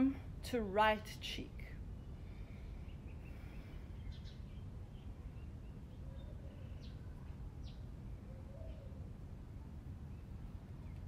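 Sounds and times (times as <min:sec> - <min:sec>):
small birds chirping: 0:01.6 - 0:11.0.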